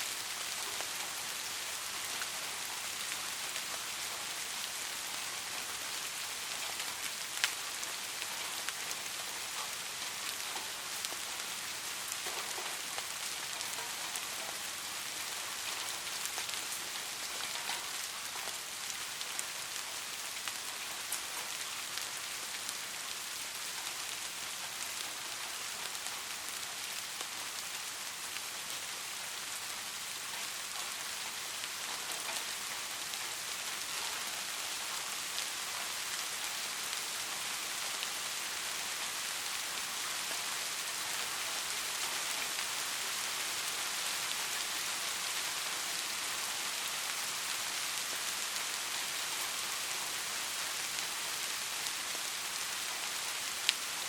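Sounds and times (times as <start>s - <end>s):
light rain falling: 0.0s - 54.0s
rain drop ticks: 0.3s - 22.8s, 29.6s - 52.0s.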